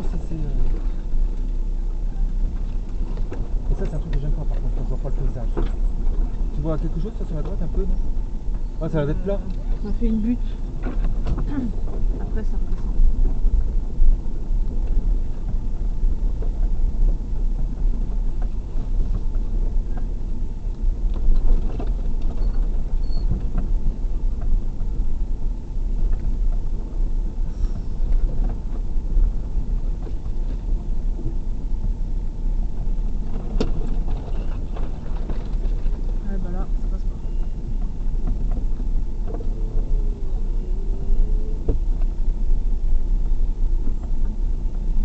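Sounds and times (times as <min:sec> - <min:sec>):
tyres rumbling over dirt track: 0:00.0 - 0:45.0
vehicle engine running: 0:00.0 - 0:45.0.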